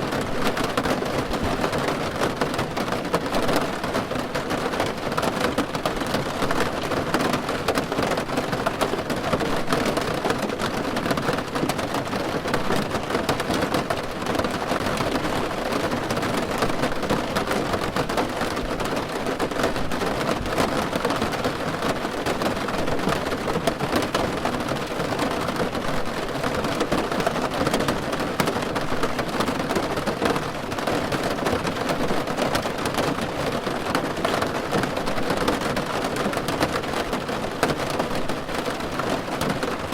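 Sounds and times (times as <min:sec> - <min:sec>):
rain drumming on a car roof: 0:00.0 - 0:39.9.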